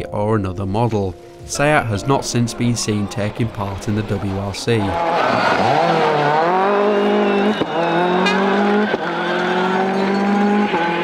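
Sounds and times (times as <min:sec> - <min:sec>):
rally car engine revving: 0:01.7 - 0:11.0.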